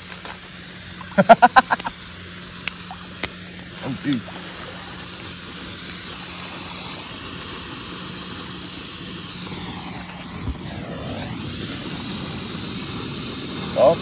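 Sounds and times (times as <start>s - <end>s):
distress flare burning with hiss: 0.0s - 14.0s.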